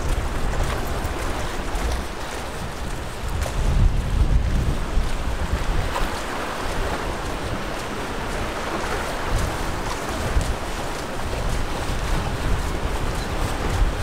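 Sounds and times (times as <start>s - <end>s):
sea wash: 0.0s - 14.0s
wind buffeting microphone: 0.0s - 14.0s.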